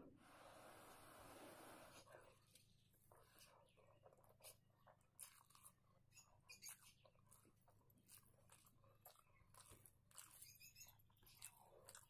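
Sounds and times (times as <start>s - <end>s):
chewing and wet mouth sounds: 2.1s - 12.0s.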